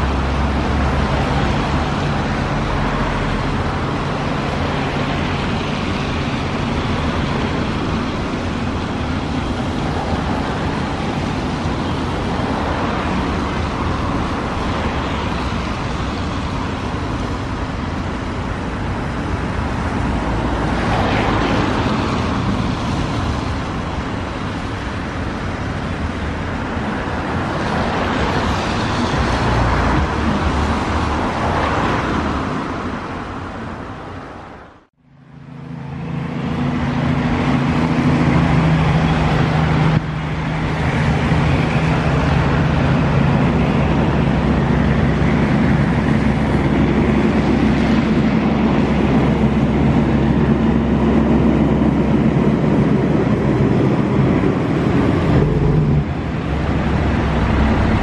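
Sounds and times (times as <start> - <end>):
jet engines roaring: 0.0 - 33.8, 34.8 - 58.0
jet engines low hum: 0.0 - 58.0.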